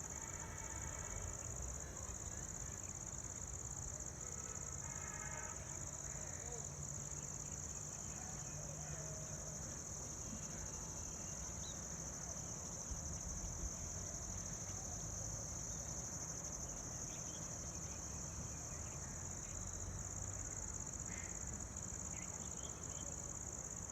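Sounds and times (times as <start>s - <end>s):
crickets chirping: 0.0s - 23.9s.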